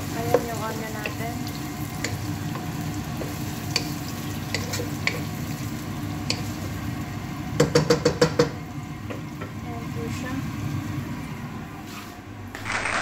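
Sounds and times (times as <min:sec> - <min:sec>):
onions sizzling in a pot: 0:00.0 - 0:12.1.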